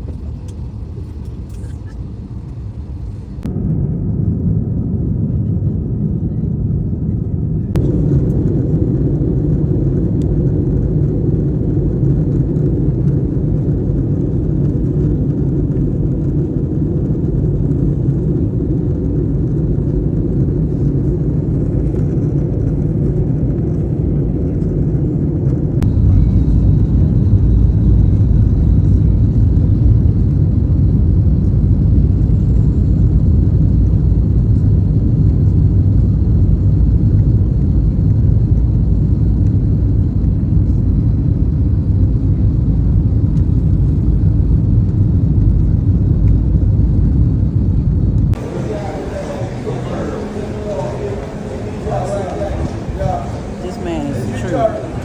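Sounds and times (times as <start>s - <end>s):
moving vehicle rumble: 0.0s - 3.5s, 5.3s - 37.0s, 40.0s - 55.0s.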